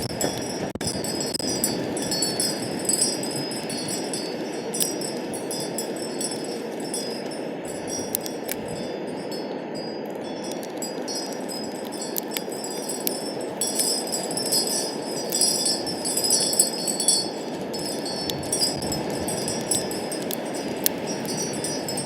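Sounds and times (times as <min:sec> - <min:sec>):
light clinks: 0:00.0 - 0:22.0
metallic chiming tones: 0:00.0 - 0:22.0.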